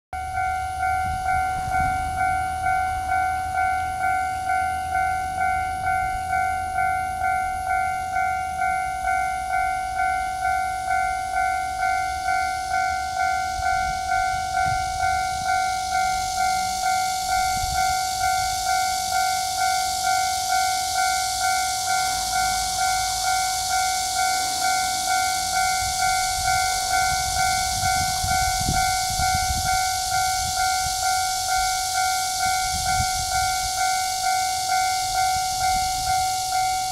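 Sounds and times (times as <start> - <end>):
level crossing warning bell: 0.2 - 36.9.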